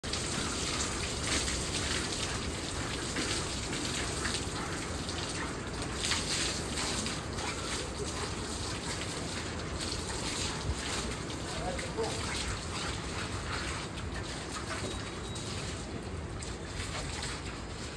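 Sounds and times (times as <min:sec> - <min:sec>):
water splashing from hose: 0:00.0 - 0:17.9.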